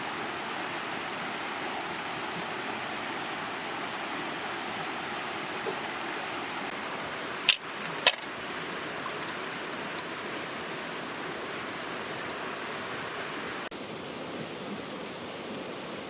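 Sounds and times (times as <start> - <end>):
small waterfall and stream rushing: 0.0 - 16.0.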